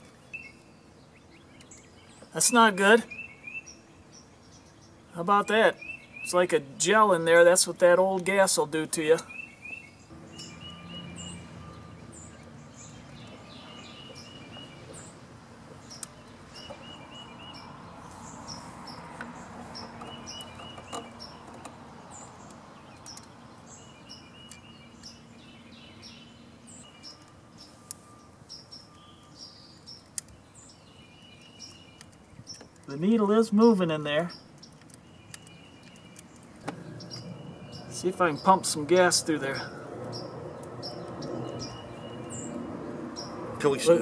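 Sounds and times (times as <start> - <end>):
birds chirping: 0.0 - 44.0
faint outdoor background noise: 0.0 - 44.0.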